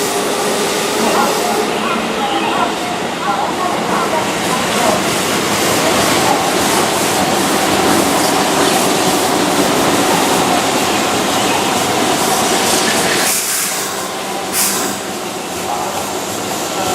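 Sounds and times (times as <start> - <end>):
electric train running on rails: 0.0 - 16.9.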